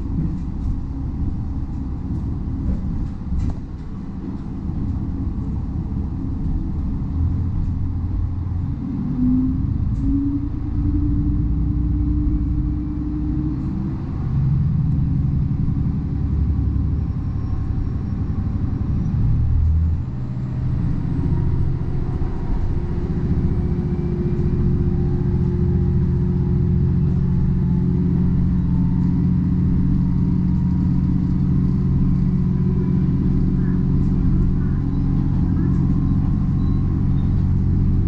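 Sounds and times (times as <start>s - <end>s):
railcar engine drone: 0.0s - 38.0s.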